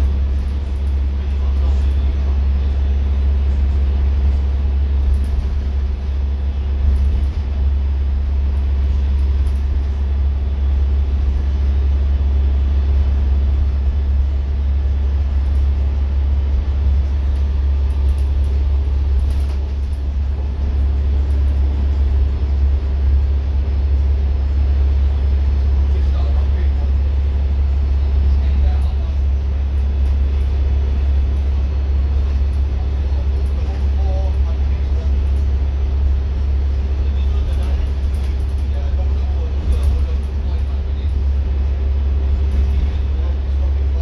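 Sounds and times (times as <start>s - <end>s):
bus engine drone: 0.0s - 44.0s
road and tyre noise: 0.0s - 44.0s.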